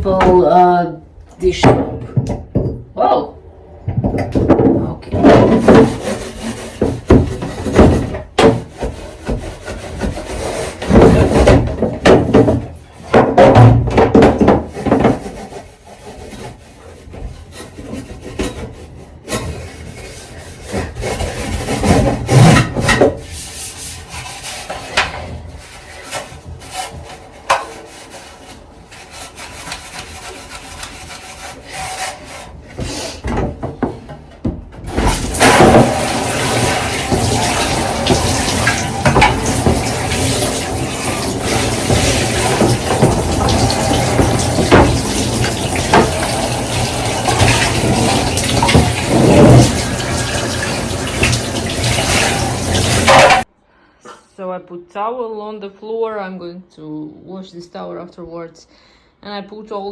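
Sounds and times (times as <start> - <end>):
scrubbing plastic shelves: 4.8 - 53.5.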